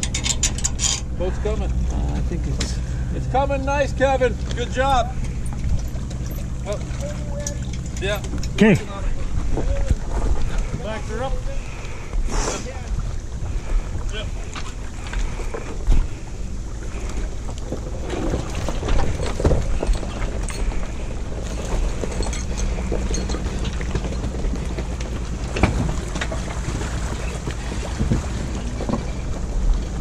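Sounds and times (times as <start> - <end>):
truck engine running: 0.0 - 12.3, 12.9 - 30.0
wind buffeting microphone: 0.0 - 30.0.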